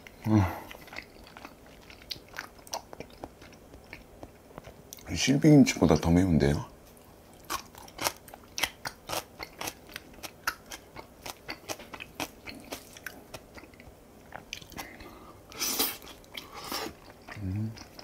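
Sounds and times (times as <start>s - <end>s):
crunchy chewing: 0.0s - 5.1s, 7.3s - 18.0s.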